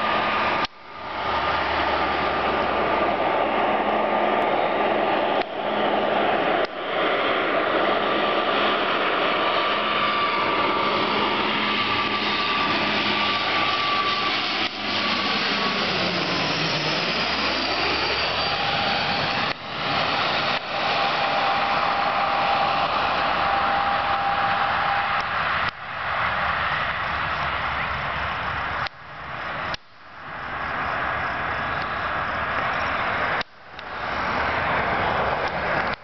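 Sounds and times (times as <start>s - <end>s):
propeller whine: 0.0s - 36.0s
turboprop airliner engines droning: 0.0s - 36.0s.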